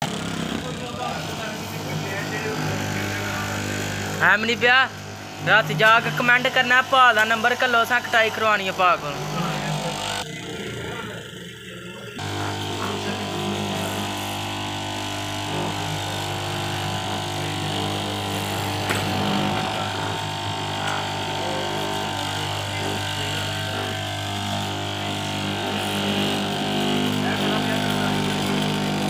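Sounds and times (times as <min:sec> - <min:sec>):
cloth cutting machine humming: 0:00.0 - 0:29.0.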